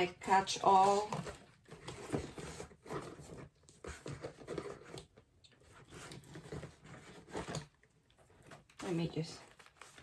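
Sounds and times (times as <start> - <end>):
items rustling and scraping in purse: 0.0 - 10.0.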